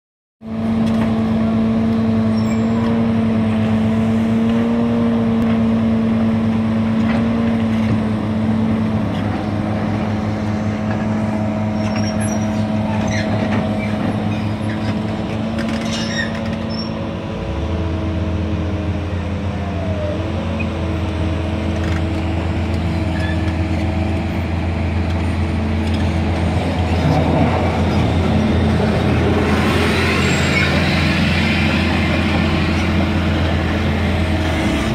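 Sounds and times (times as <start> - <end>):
deeper engine drone: 0.4 - 34.9
excavator diesel engines running: 0.5 - 34.9.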